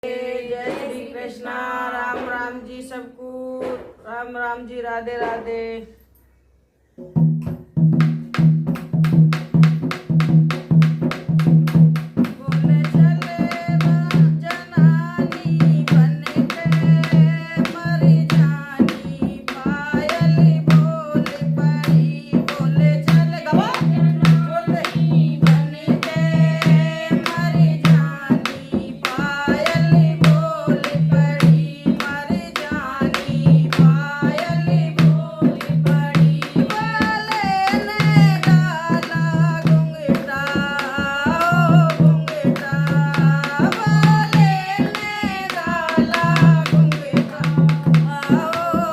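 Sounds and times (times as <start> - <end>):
person singing devotional song: 0.0 - 6.2, 11.4 - 48.9
steady drum beat and percussion: 7.0 - 48.9.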